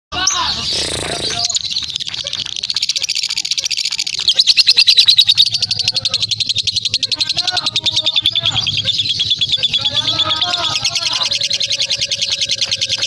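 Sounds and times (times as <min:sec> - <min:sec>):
lovebird chattering trill: 0:00.2 - 0:13.0.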